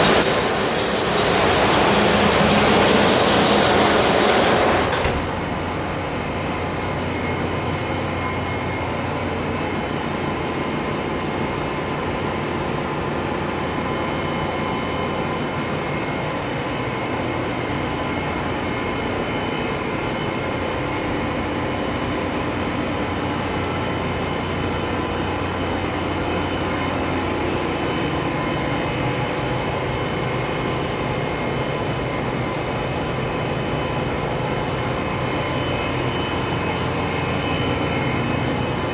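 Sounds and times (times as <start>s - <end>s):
engine room machinery drone: 0.0s - 38.9s.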